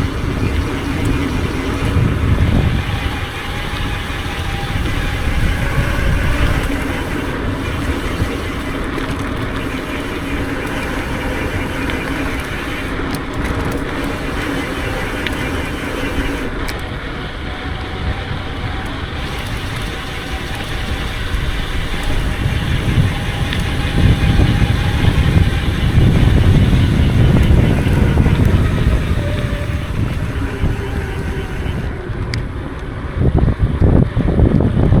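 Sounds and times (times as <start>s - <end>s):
bike freehub ratcheting buzz: 0.0s - 32.8s, 34.5s - 35.0s
bike tyres rumbling over ground: 0.0s - 35.0s
wind buffeting microphone: 0.0s - 35.0s.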